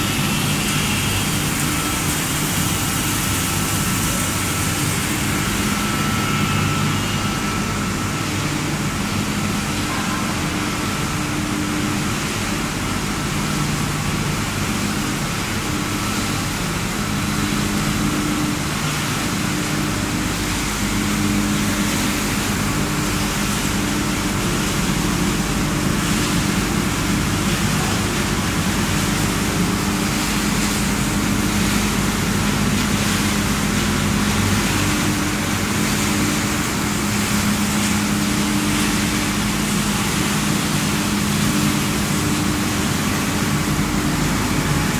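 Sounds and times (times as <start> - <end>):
production line machinery din: 0.0 - 44.9.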